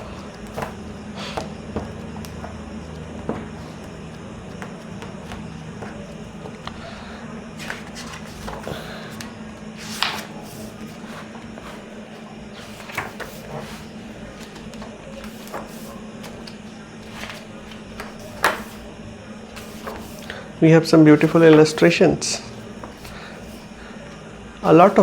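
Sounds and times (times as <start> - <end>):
book pages turning: 0.0 - 20.5, 21.1 - 25.0
low room hum: 0.0 - 25.0.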